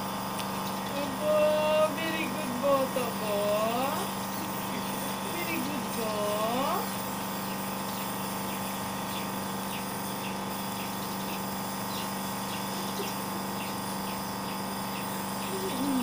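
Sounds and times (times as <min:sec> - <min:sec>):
nebulizer compressor humming: 0:00.0 - 0:16.0.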